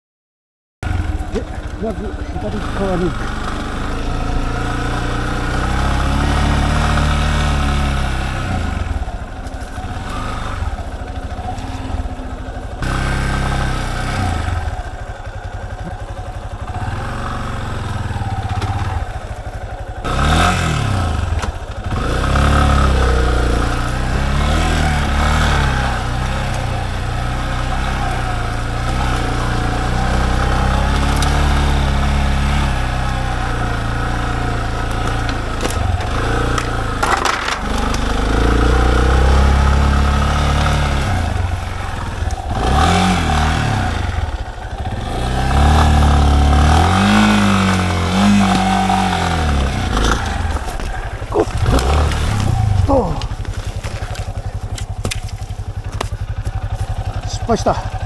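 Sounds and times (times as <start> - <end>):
motorcycle engine revving: 0.8 - 58.0.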